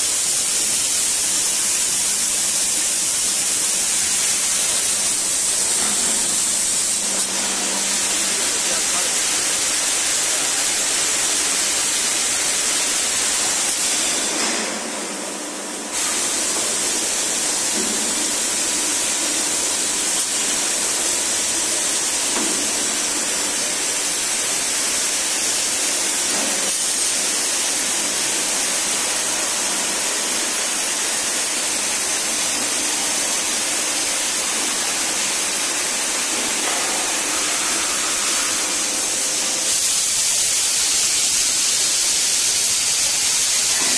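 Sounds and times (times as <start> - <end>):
machine hissing: 0.0 - 43.9.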